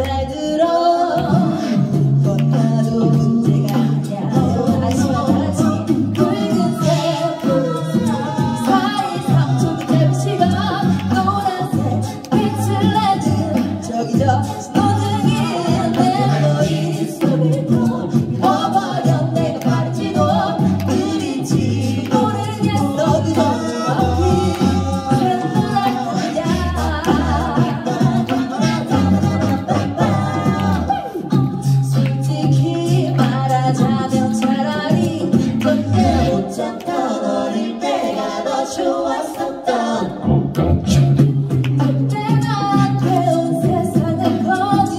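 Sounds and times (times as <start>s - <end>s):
a cappella group singing: 0.0s - 44.9s.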